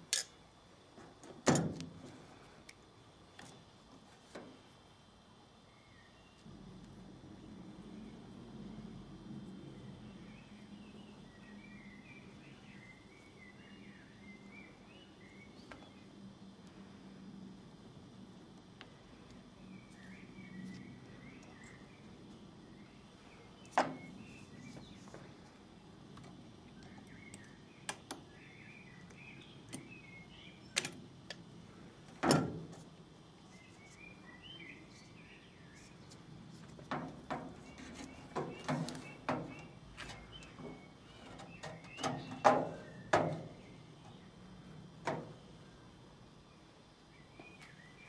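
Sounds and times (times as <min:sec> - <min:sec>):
faint birds chirping: 0:02.0 - 0:32.2, 0:32.8 - 0:48.0.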